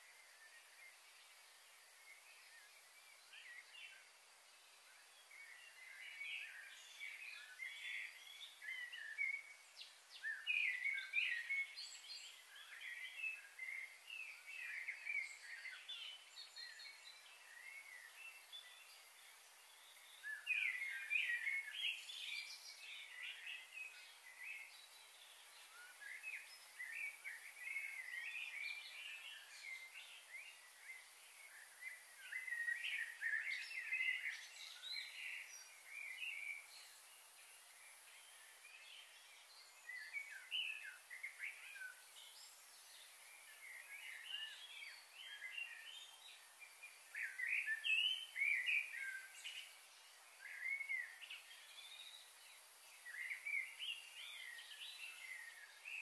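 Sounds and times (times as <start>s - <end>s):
birds chirping and twittering: 0.0s - 56.0s
faint outdoor hiss: 0.0s - 56.0s.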